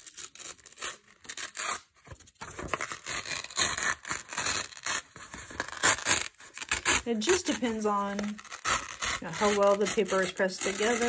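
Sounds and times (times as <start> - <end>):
paper tearing: 0.0 - 11.0.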